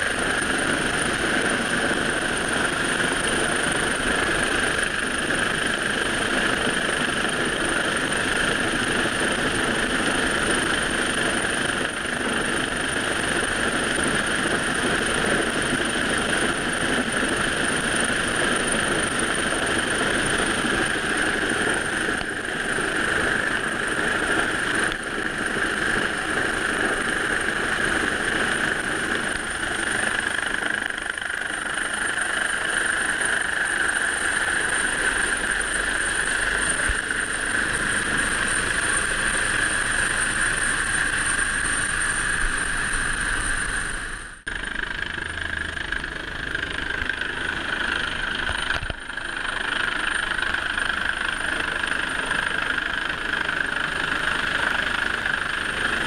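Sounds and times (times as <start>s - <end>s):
helicopter hovering overhead: 0.0s - 56.0s
steady high whine: 0.0s - 56.0s
wind: 0.0s - 56.0s.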